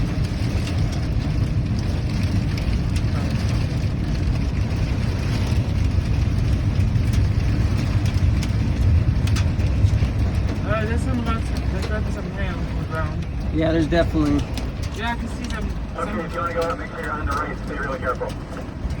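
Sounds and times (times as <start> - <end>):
car engine rumbling in cabin: 0.0 - 19.0.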